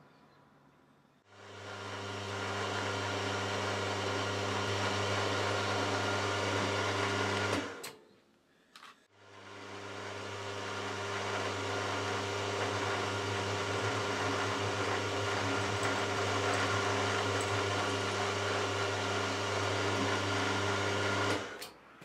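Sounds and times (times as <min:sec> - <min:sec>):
milling machine motor hum: 0:01.3 - 0:07.8, 0:09.2 - 0:21.7.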